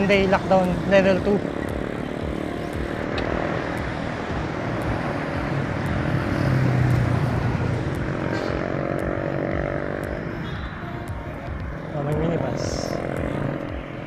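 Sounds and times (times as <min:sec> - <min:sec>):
motor vehicle engine hum: 0:00.0 - 0:14.0
road noise: 0:00.0 - 0:14.0.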